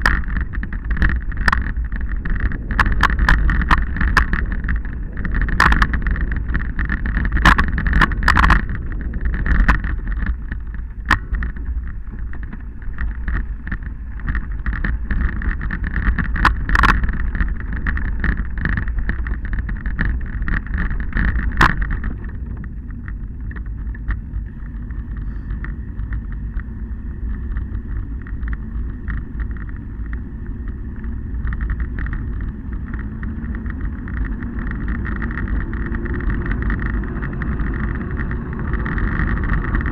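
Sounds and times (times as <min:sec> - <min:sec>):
rattling over stony track: 0:00.0 - 0:39.9
wind buffeting microphone: 0:00.0 - 0:39.9.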